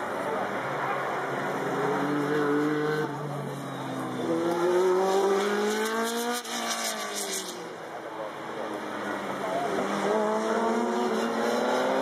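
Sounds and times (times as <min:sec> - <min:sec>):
race car engine accelerating: 0:00.3 - 0:07.8, 0:08.5 - 0:12.0.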